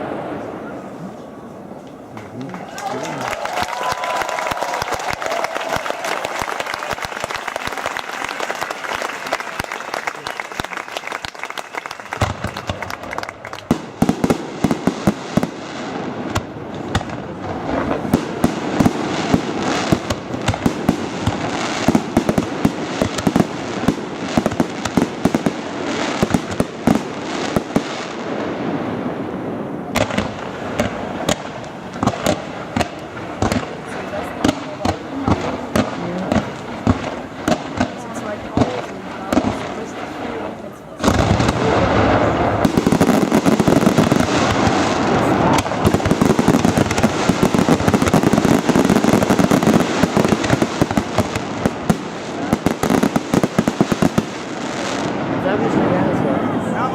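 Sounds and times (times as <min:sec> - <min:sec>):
fireworks bangs and crackling: 0:00.0 - 0:56.9.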